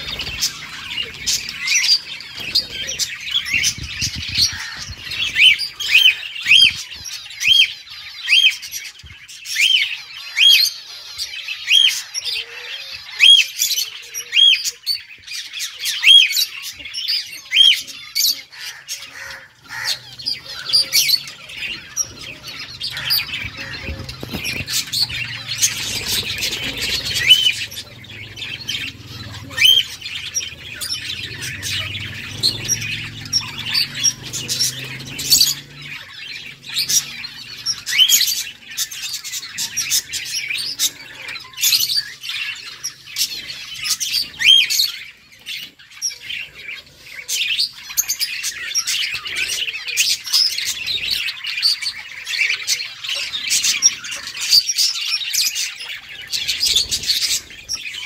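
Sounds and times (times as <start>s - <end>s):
budgerigars chattering and warbling: 0.0s - 58.0s.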